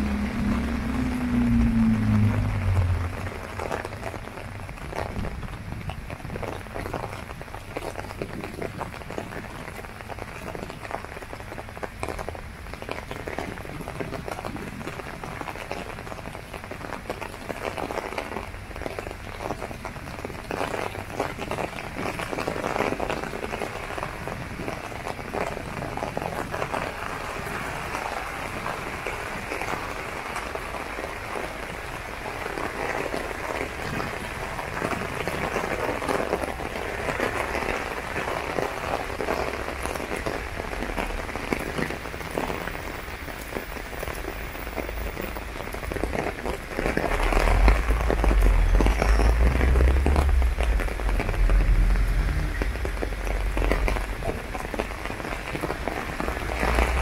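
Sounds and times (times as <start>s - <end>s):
heavy rain on umbrella: 0.0s - 57.0s.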